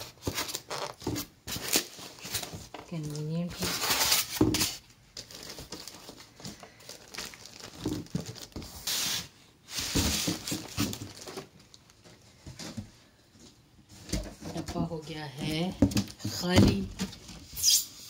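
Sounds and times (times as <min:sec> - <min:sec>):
packaging crinkling and rustling: 0:00.0 - 0:14.8.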